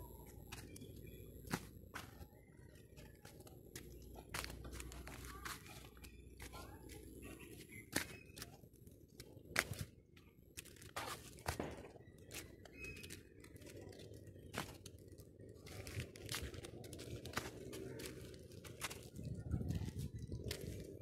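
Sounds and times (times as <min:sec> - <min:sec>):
footsteps on dry leaves: 0:00.2 - 0:08.6, 0:10.6 - 0:21.0.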